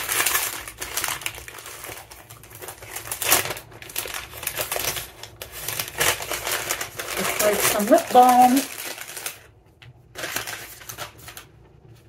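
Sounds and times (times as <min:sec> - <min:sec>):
paper bag crinkling: 0:00.0 - 0:12.0.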